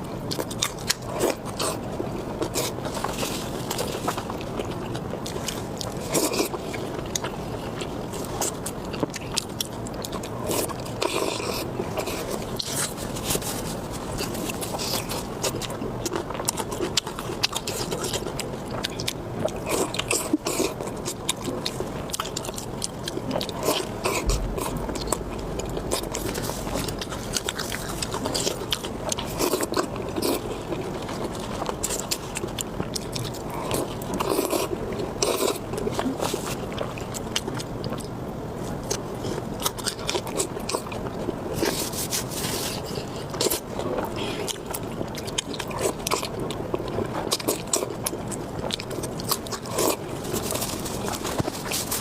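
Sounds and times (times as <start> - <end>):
crunchy chewing: 0.0 - 52.0.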